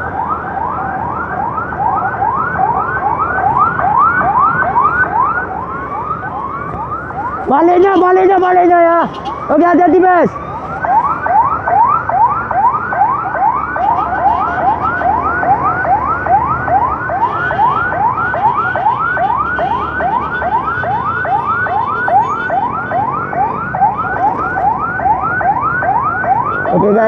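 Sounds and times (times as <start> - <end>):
electronic siren yelping: 0.0 - 27.0
engine and road noise: 0.0 - 27.0.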